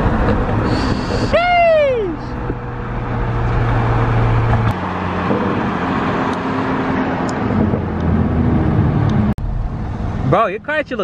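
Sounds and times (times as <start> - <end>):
low car engine: 0.0 - 11.0
road and wind noise: 0.0 - 11.0.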